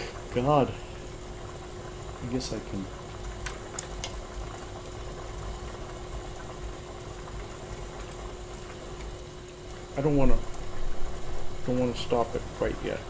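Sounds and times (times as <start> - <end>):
low burner rumble: 0.0 - 13.0
water boiling in a pot: 0.0 - 13.0.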